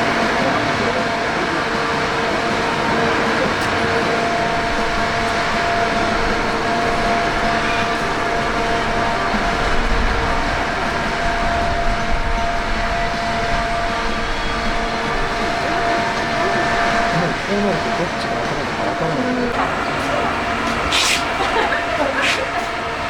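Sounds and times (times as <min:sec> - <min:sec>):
mist-spraying fan whirring: 0:00.0 - 0:23.0.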